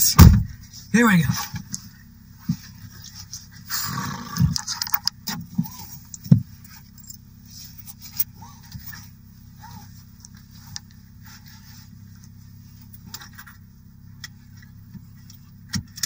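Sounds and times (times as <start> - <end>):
low hum inside car: 0.0 - 16.0.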